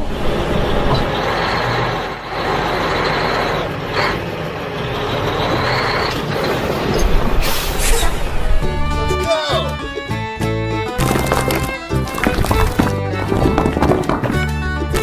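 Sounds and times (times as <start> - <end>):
truck engine rumbling: 0.0 - 9.2, 9.8 - 15.0.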